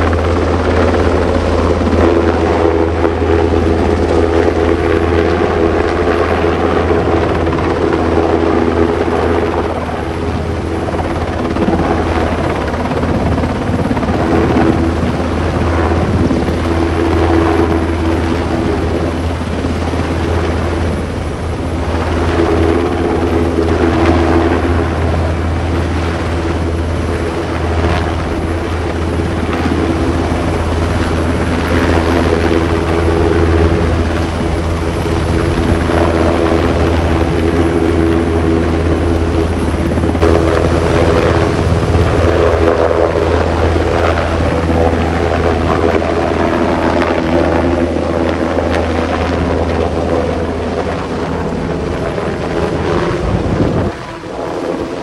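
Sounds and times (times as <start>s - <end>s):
helicopter rotor beat: 0.0s - 55.0s
turbine whine: 0.0s - 55.0s.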